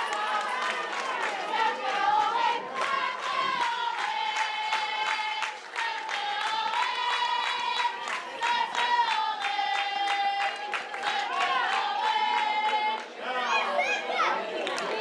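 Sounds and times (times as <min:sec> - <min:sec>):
people clapping: 0:00.0 - 0:15.0
supporters chanting: 0:00.0 - 0:15.0.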